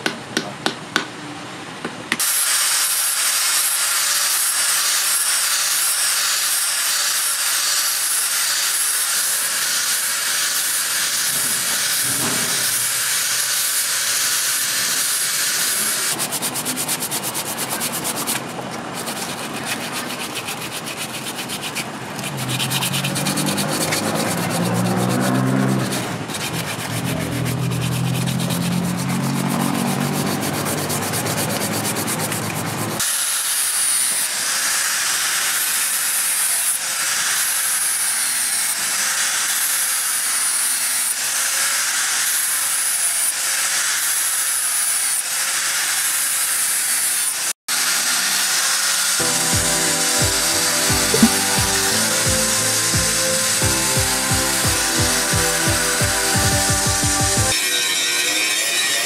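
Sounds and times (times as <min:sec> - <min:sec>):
angle grinder grinding steel: 0:02.2 - 0:17.0, 0:17.6 - 0:31.8, 0:33.0 - 0:56.4
sandpaper rubbing wood: 0:02.2 - 0:57.6.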